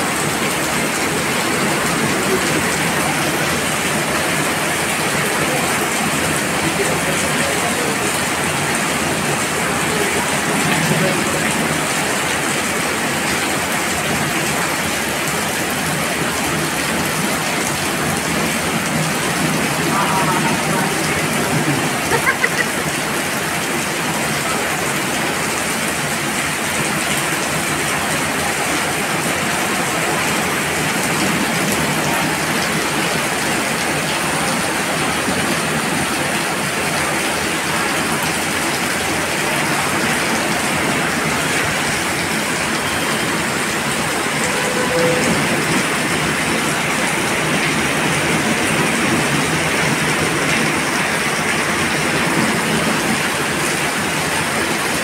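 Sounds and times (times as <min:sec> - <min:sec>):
heavy rain splashing on stone: 0:00.0 - 0:55.0.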